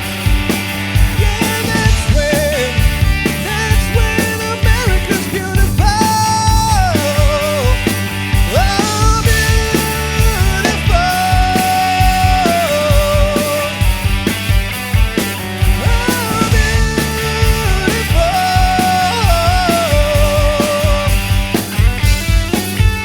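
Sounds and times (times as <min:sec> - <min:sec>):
drums and bass beat: 0:00.0 - 0:23.0.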